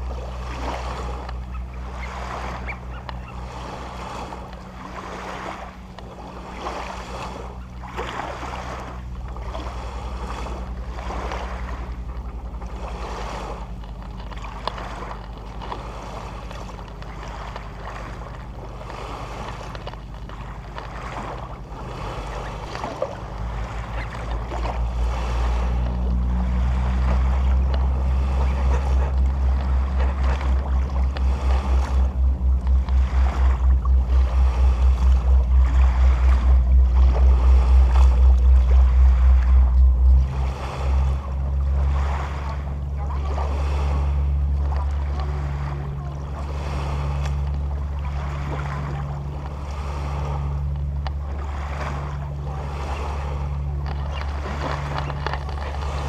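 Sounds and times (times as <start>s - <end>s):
boat engine running: 0.0s - 56.0s
water rushing: 0.0s - 56.0s
wind: 0.0s - 56.0s.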